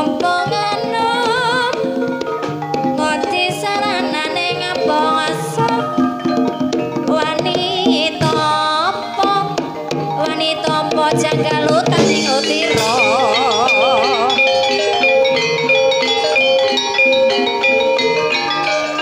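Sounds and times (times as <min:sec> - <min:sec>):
person singing ornamented melody: 0:00.0 - 0:02.1, 0:02.9 - 0:06.3, 0:07.0 - 0:19.0
hand drums beating: 0:00.0 - 0:19.0
sustained tuned instruments: 0:00.0 - 0:19.0.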